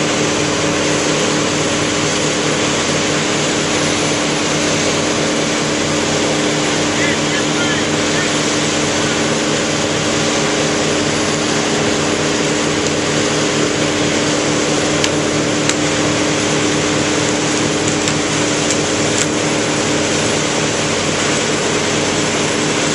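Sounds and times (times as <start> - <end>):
heavy machinery engine droning: 0.0 - 22.9.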